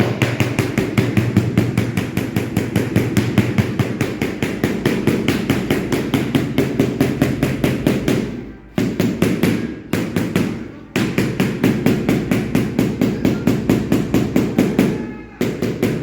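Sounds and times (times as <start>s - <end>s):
rapid even tapping: 0.0s - 16.0s.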